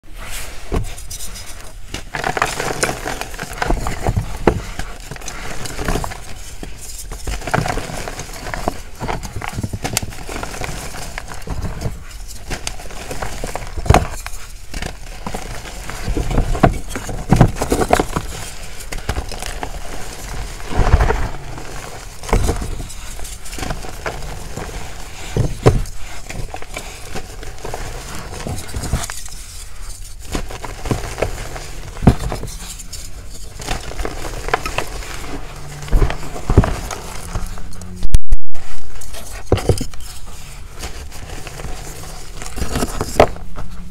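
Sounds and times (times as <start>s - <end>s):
hands crushing chalk blocks: 0.7s - 37.9s, 38.6s - 43.9s.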